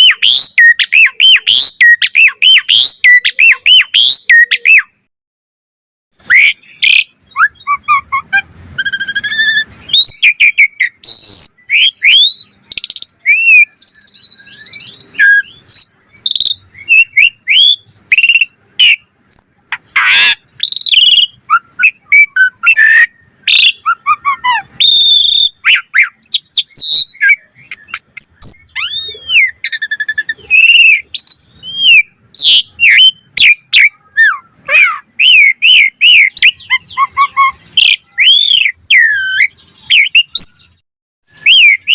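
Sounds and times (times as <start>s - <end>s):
starling singing: 0.0s - 5.0s, 6.2s - 41.9s.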